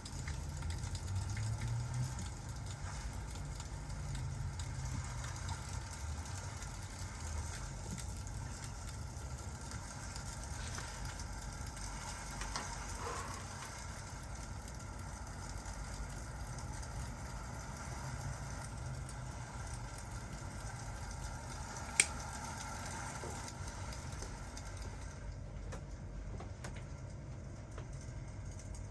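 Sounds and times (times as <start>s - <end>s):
faint fire crackles: 0.0s - 28.9s
low rumble and hiss: 0.0s - 28.9s.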